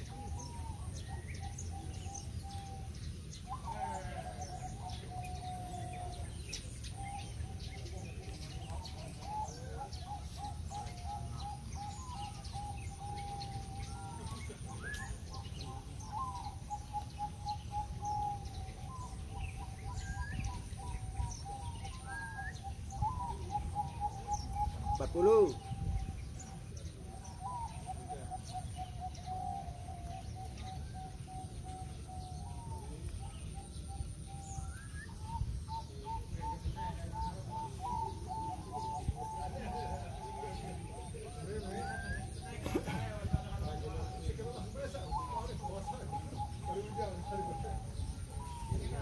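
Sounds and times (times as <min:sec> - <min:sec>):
doves cooing: 0:00.0 - 0:49.0.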